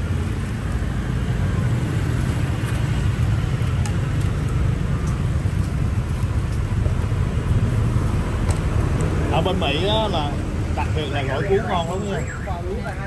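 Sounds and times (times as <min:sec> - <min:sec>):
city street traffic roar: 0:00.0 - 0:13.0.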